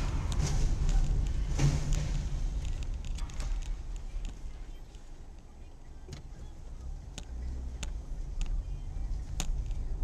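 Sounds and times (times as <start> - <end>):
car driving rumble: 0.0 - 10.0.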